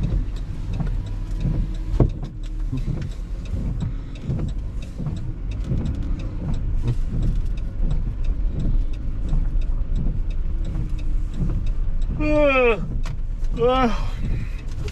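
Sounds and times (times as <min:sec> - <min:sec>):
rain ticking on car: 0:00.0 - 0:14.9
road and engine rumble: 0:00.0 - 0:14.9.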